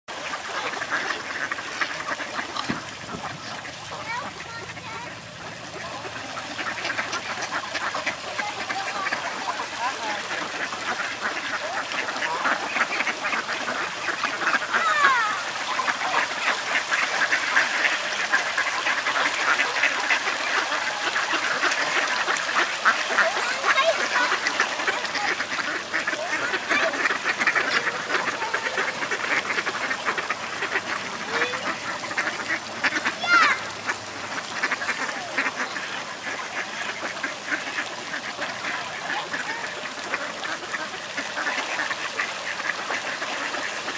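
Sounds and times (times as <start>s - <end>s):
ducks and geese calling: 0.1s - 43.9s.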